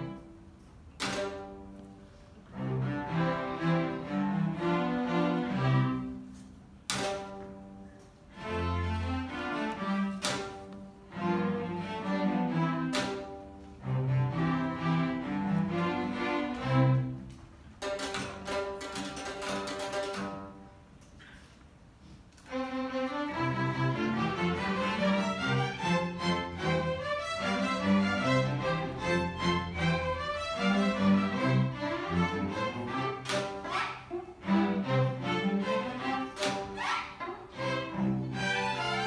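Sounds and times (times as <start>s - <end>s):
string orchestra playing: 0.0s - 21.1s, 22.4s - 39.0s.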